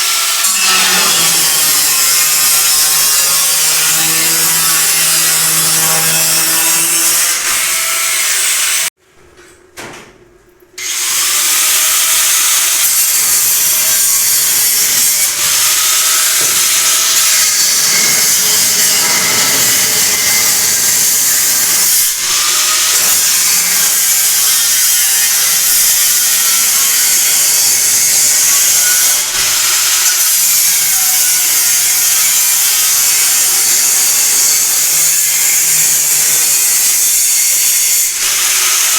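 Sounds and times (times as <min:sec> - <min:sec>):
angle grinder cutting metal: 0:00.0 - 0:08.9, 0:10.8 - 0:38.9.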